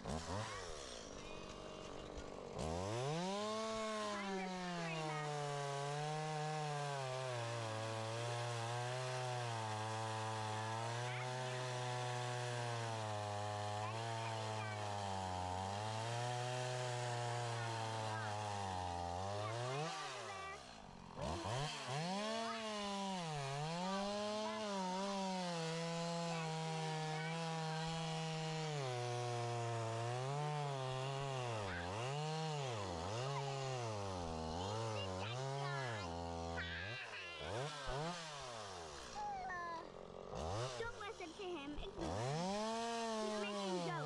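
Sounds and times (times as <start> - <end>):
chainsaw cutting: 0.0 - 44.0.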